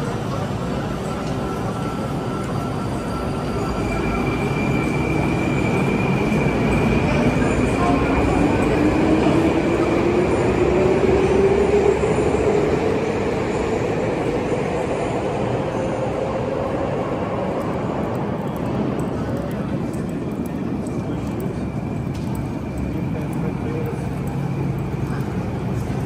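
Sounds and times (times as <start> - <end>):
metro train rumbling: 0.0 - 26.0.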